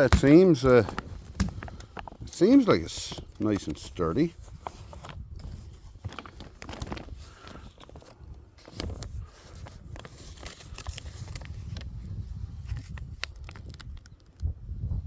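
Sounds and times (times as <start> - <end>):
plastic cover rustling and crinkling: 0.0 - 14.4.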